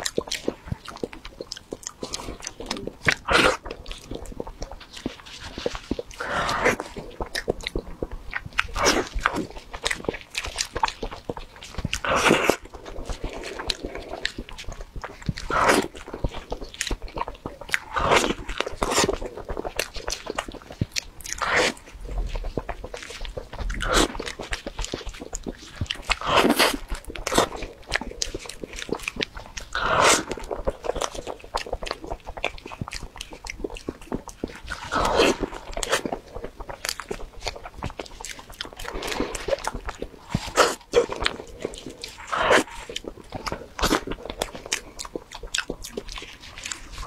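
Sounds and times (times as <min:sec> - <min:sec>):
biting and chewing cake: 0:00.0 - 0:47.0.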